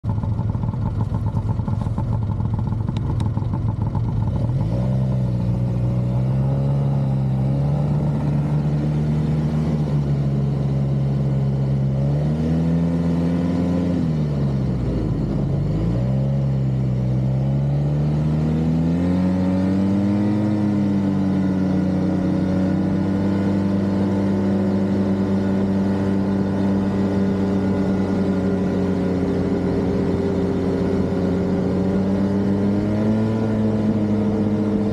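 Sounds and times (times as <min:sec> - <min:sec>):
snowmobile engine: 0:00.1 - 0:34.9.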